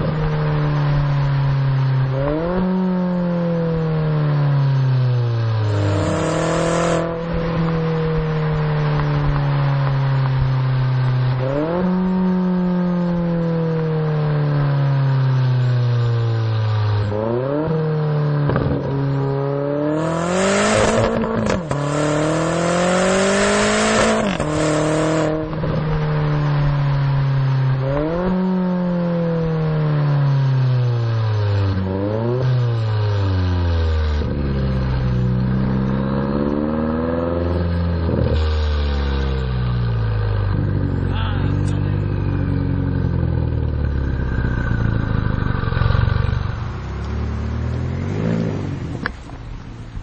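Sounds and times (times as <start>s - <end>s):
car engine revving through exhaust: 0.0s - 50.0s.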